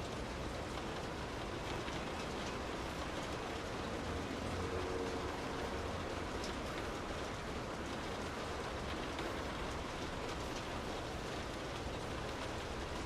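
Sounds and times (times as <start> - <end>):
rain on car roof and glass: 0.0 - 13.0.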